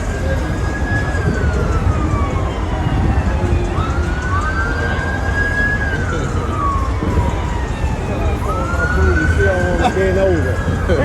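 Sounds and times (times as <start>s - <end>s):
low rumble of street noise: 0.0s - 11.0s
siren wailing: 0.0s - 11.0s.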